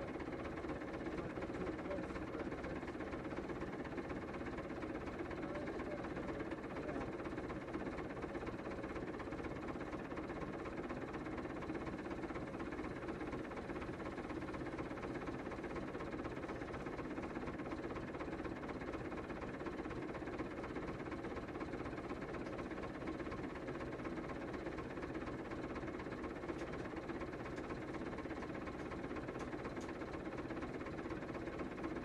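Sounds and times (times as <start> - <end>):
tractor diesel engine idling: 0.0 - 32.0.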